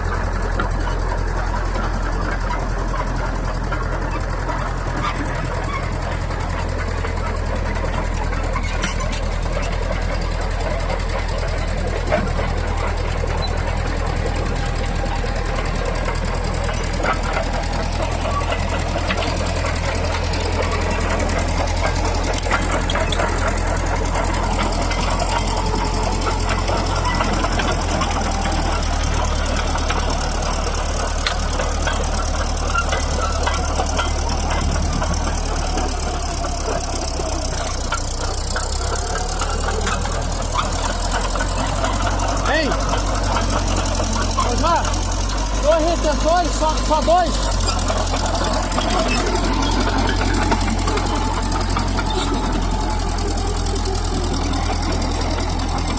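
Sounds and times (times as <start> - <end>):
crawler tractor diesel engine: 0.0 - 55.9
short clicks and rattles: 0.4 - 55.9.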